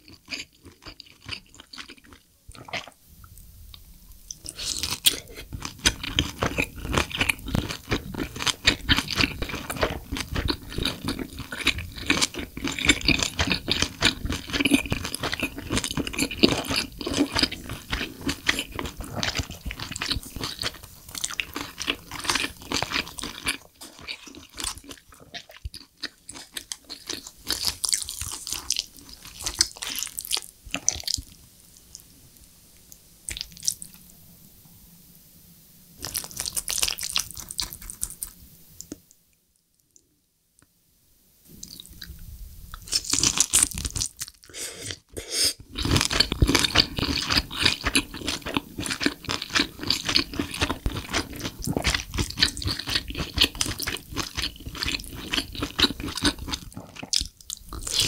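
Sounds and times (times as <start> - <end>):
chewing and wet mouth sounds: 0.0 - 32.1, 32.9 - 34.1, 36.0 - 39.0, 41.5 - 45.0, 45.6 - 58.0.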